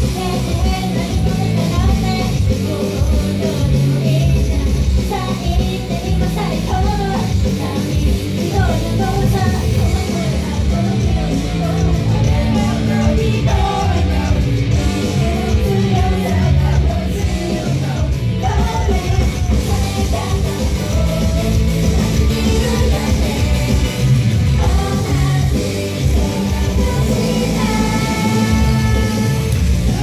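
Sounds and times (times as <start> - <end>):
person singing: 0.0 - 30.0
rock backing track: 0.0 - 30.0.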